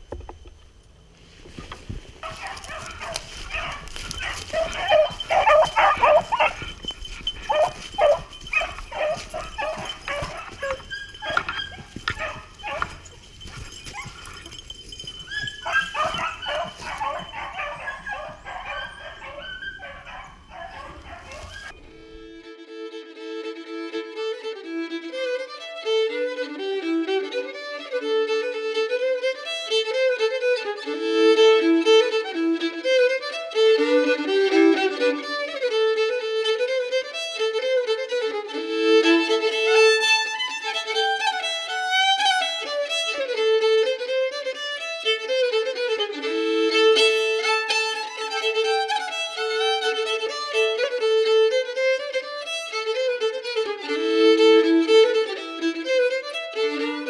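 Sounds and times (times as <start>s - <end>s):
fiddle tune: 0.0s - 57.0s.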